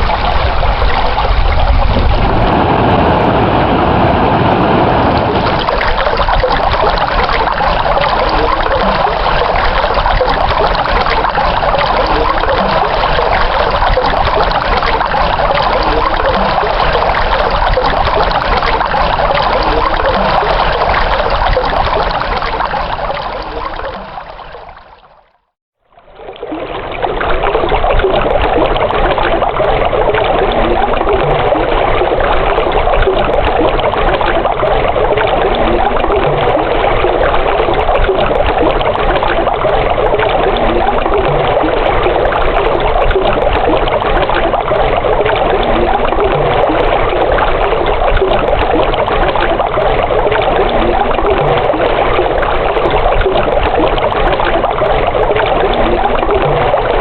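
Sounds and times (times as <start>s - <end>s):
running water trickling: 5.1s - 57.0s.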